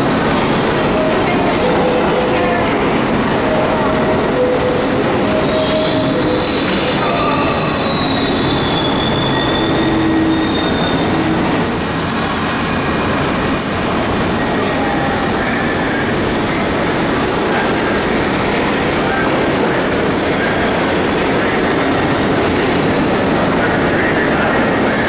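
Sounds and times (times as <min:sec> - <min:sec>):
train rumble: 0:00.0 - 0:25.0
subway wheels squealing: 0:00.7 - 0:23.0.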